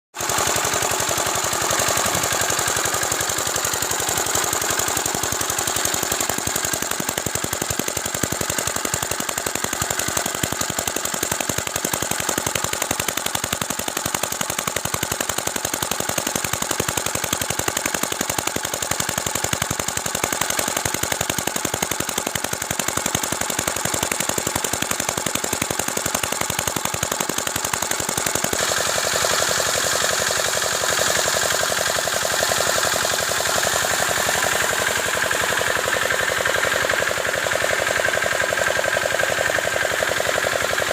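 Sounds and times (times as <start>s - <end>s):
diesel engine knocking: 0.2s - 40.9s.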